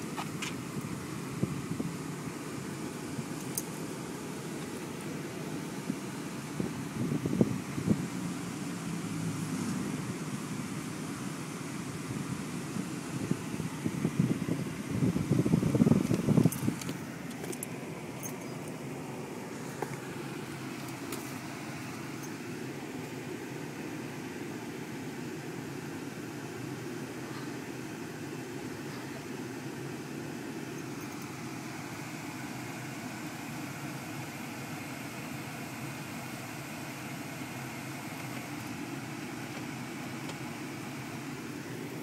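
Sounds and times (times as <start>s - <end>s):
car cabin engine and road noise: 0.0s - 42.0s.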